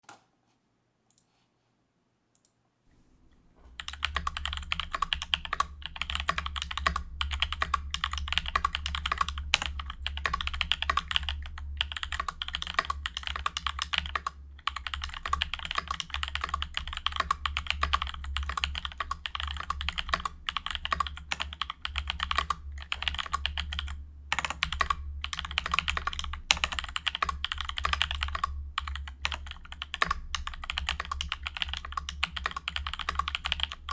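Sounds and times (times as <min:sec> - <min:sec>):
fast mechanical keyboard typing: 0:03.8 - 0:33.9.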